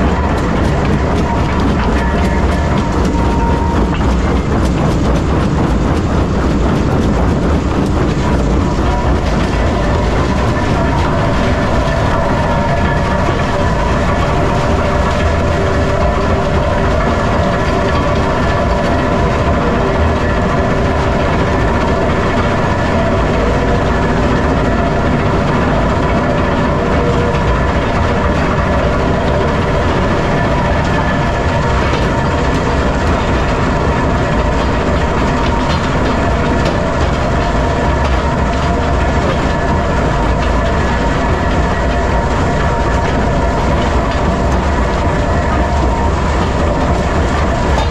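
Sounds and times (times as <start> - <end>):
steady machine drone: 0.0 - 47.9.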